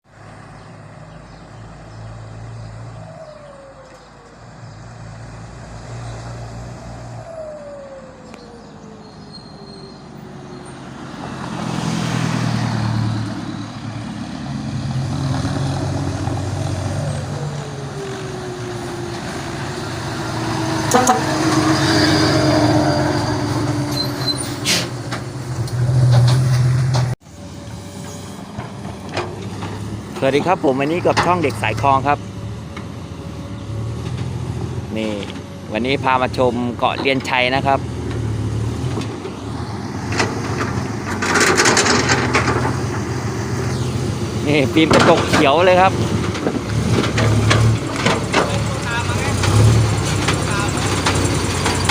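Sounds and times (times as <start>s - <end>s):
truck engine shifting gears: 0.0s - 51.9s.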